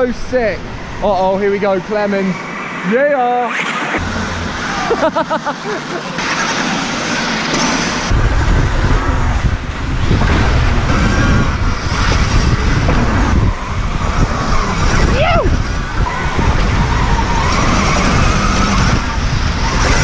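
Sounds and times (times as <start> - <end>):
air rush and tyre noise: 0.0 - 20.0
heavy rumbling buffeting: 3.9 - 20.0.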